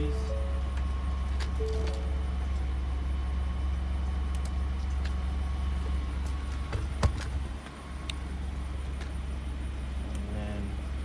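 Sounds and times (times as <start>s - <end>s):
low vehicle engine hum: 0.0s - 11.0s.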